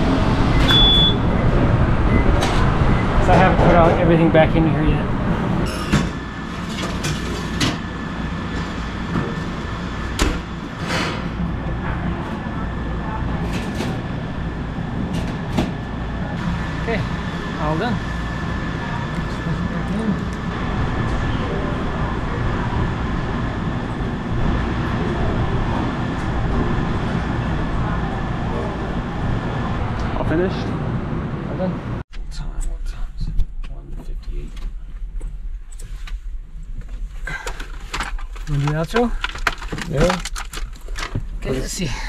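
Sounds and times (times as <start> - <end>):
ventilation fans rumbling: 0.0 - 42.0.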